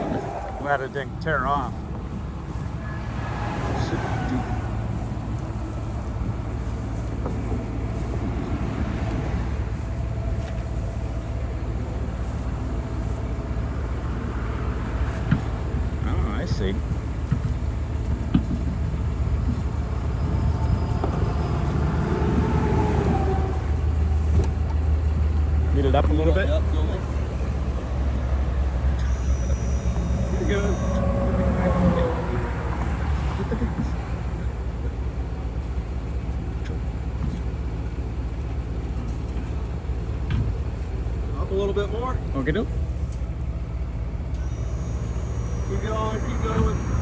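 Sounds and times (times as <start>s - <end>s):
highway traffic passing: 0.0s - 47.0s
low engine hum: 0.0s - 47.0s
vehicle road noise: 0.0s - 47.0s.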